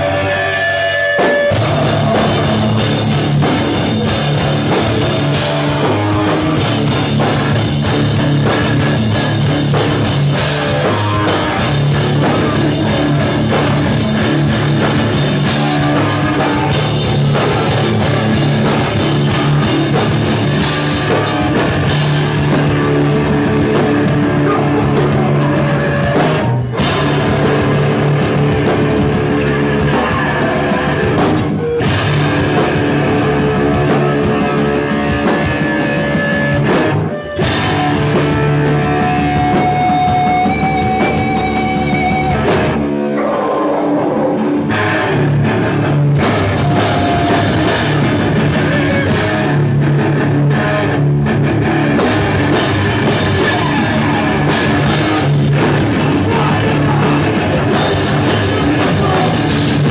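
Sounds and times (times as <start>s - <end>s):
hardcore band playing live: 0.0s - 59.9s.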